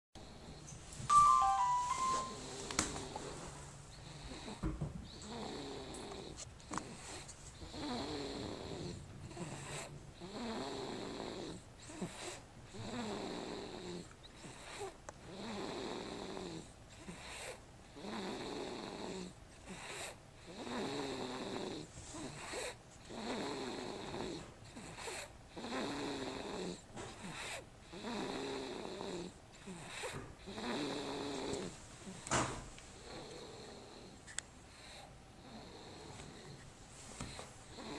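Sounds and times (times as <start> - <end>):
rhythmic snoring: 3.9 - 31.7, 33.0 - 36.6, 37.7 - 37.9.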